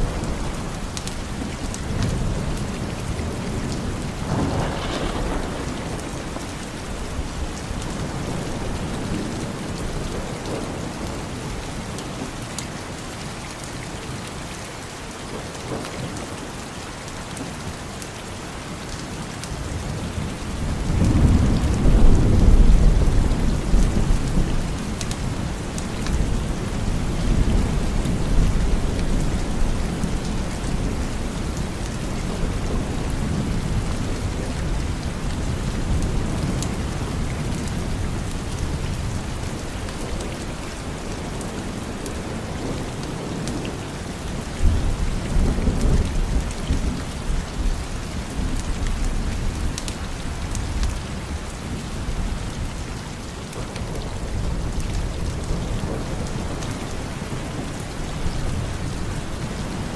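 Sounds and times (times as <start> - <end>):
low rolling thunder: 0.0 - 11.6, 19.7 - 59.9
steady rain: 0.0 - 59.9.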